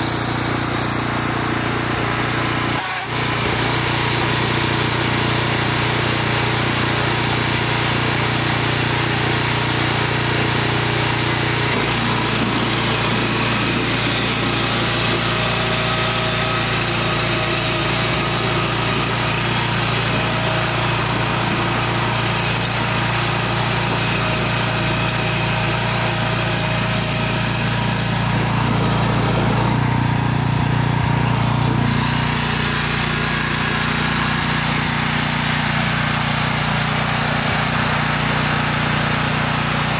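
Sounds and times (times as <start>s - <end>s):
tiller engine running under load: 0.0s - 39.9s.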